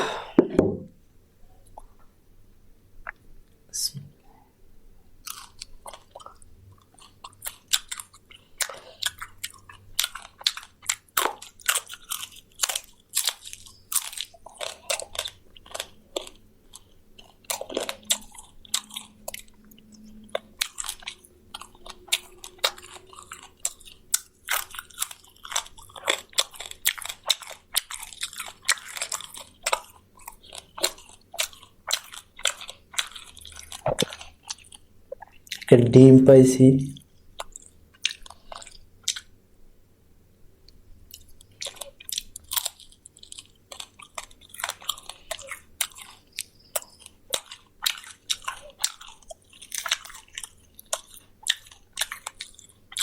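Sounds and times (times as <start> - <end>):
person chewing crunchy food: 5.2 - 35.8, 37.0 - 39.4, 40.7 - 53.0.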